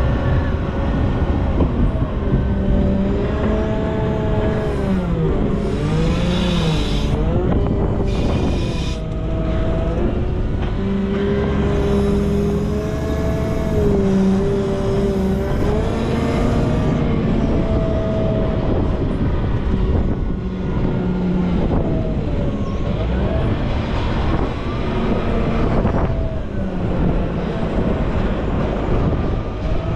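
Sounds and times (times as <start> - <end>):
wheel loader diesel engine running: 0.0 - 29.9.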